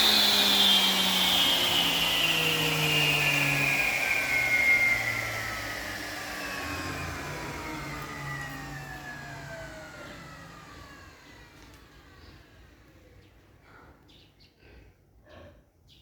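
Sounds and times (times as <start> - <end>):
saw motor whine spinning down: 0.0 - 13.4.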